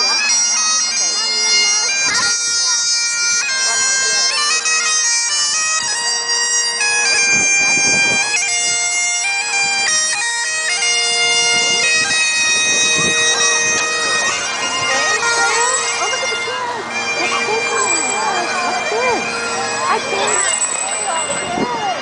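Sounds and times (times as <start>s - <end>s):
bagpipes playing: 0.0s - 22.0s.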